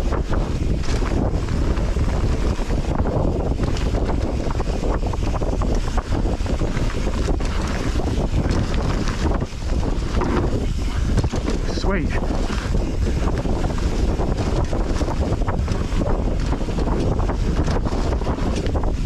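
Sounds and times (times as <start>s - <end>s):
bike rattling and knocking: 0.0s - 19.0s
tyres rumbling on dirt: 0.0s - 19.0s
wind buffeting microphone: 0.0s - 19.0s.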